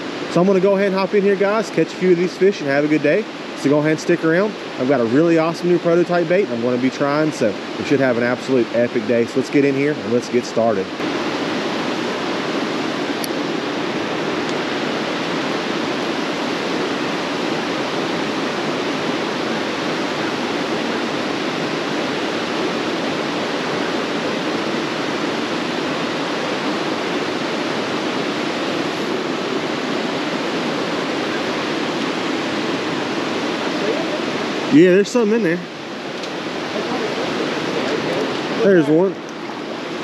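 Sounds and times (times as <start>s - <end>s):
stream water rushing over rocks: 0.0s - 40.0s.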